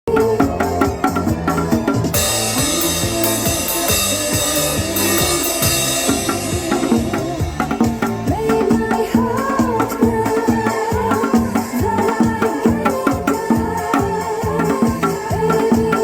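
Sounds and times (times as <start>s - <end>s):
keyboard melody: 0.1s - 13.9s
disco backing track: 0.1s - 16.0s
hourglass drum struck fast: 0.2s - 16.0s.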